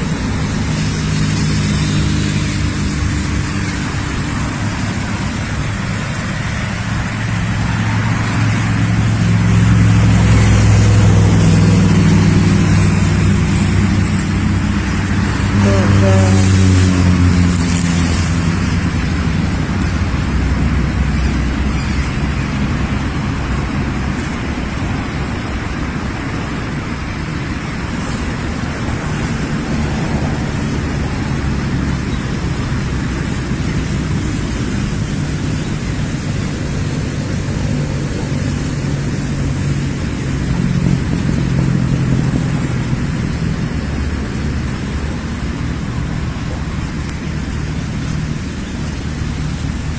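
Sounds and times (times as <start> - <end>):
road noise: 0.0 - 49.9
vehicle engine humming: 0.0 - 49.9.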